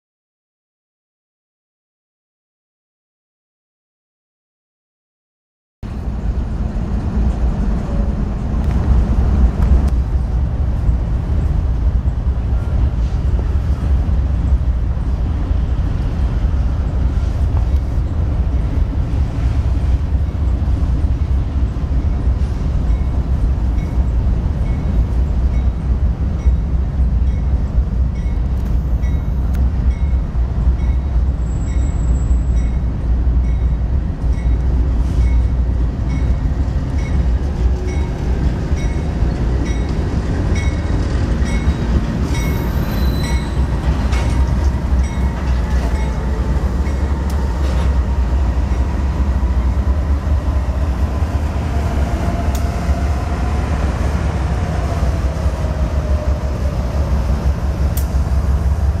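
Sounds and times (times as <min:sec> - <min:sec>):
freight train engines rumbling: 0:05.8 - 0:59.0
train wheels on rails: 0:05.9 - 0:59.0.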